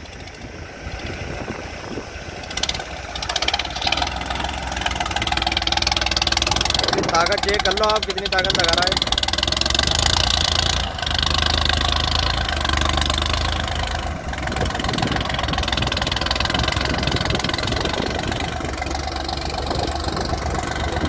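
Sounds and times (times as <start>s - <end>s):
dozer blade pushing soil: 0.0s - 21.0s
tractor diesel engine running: 0.0s - 21.0s.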